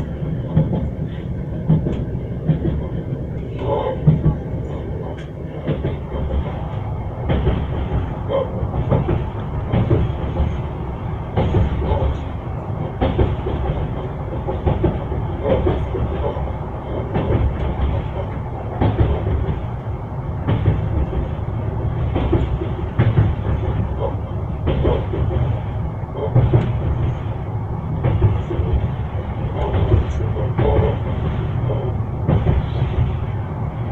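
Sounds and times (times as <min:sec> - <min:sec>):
railway carriage rumble: 0:00.0 - 0:33.9
wheels clickety-clack on rail joints: 0:00.0 - 0:33.9.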